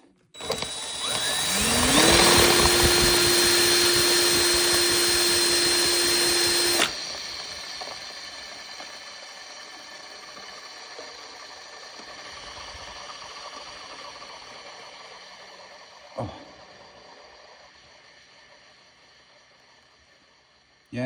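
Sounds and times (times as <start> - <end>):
drill motor whine: 0.4 - 19.6.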